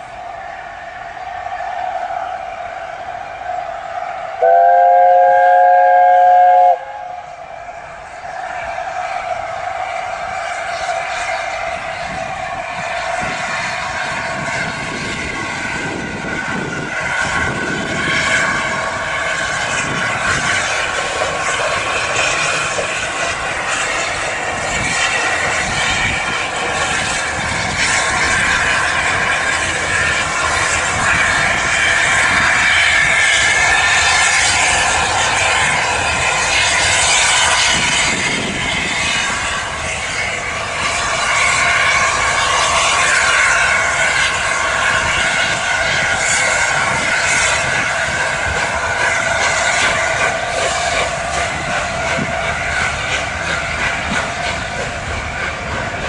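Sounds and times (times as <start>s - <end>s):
steam locomotive passing: 0.0s - 56.0s
train crossing girder bridge: 0.0s - 56.0s.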